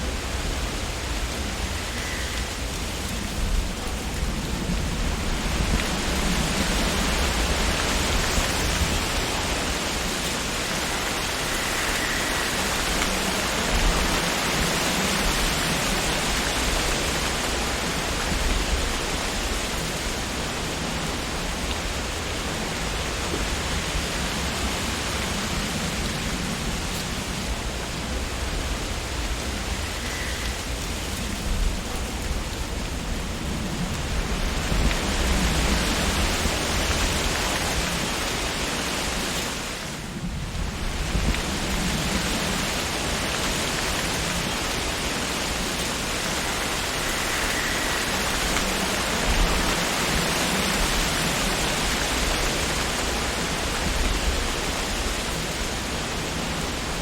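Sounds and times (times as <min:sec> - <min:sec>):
wind rustling tree leaves: 0:00.0 - 0:57.0.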